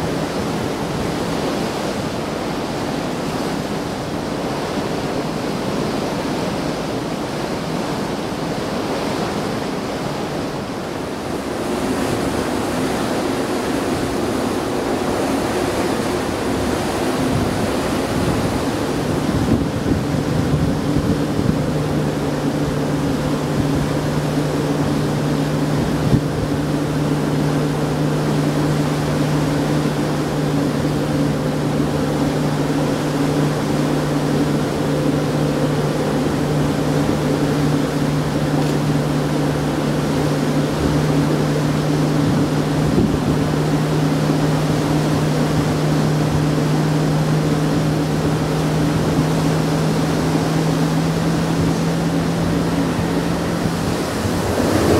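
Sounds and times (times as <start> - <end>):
ship engine drone: 0.0 - 54.9
wind and sea water rushing: 0.0 - 54.9.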